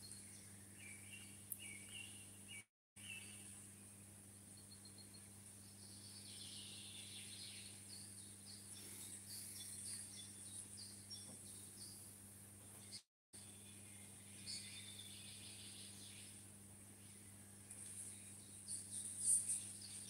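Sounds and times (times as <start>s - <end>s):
low hum and hiss: 0.0s - 20.0s
small bird singing: 0.0s - 20.0s.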